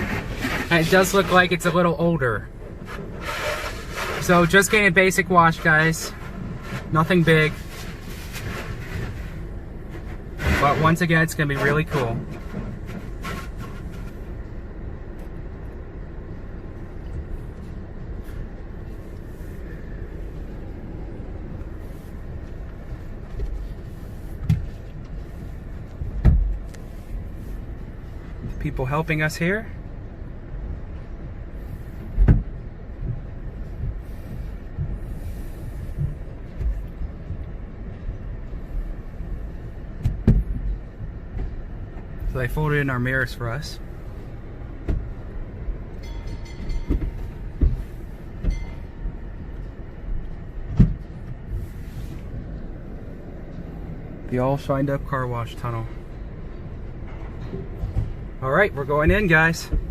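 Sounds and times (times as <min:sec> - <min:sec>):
car engine idling: 0:00.0 - 0:59.9
car wash conveyor machinery: 0:00.0 - 0:59.9.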